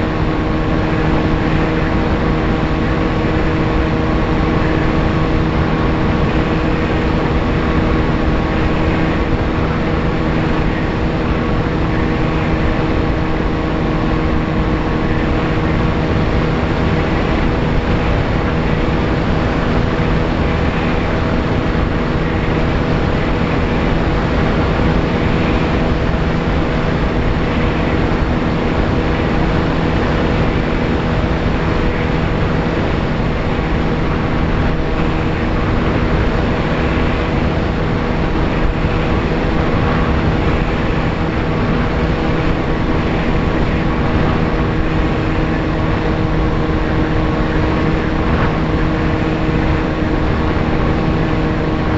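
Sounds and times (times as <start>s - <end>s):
plane motor and propeller droning: 0.0s - 51.9s
wind rush: 0.0s - 51.9s.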